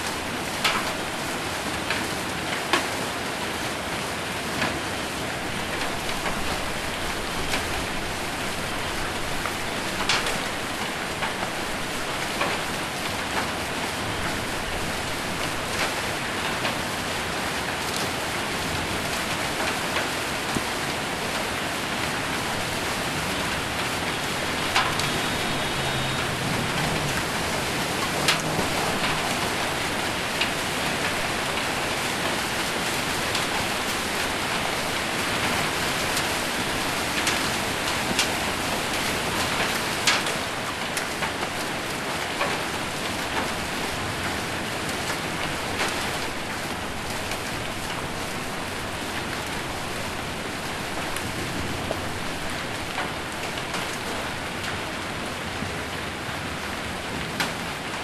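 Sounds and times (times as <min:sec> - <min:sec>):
heavy rain and hail on a roof: 0:00.0 - 0:58.0.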